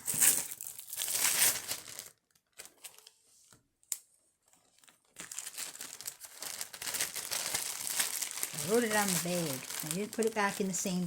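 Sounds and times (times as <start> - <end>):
plastic bag crinkling: 0.0 - 3.1, 4.5 - 11.0.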